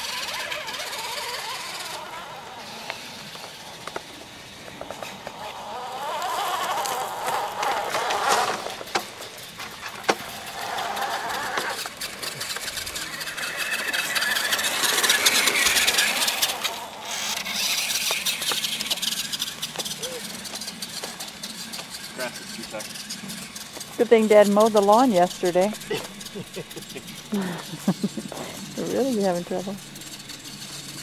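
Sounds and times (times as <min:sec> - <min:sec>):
toy truck motors whining: 0:00.0 - 0:31.0
scattered clicks: 0:06.2 - 0:31.0.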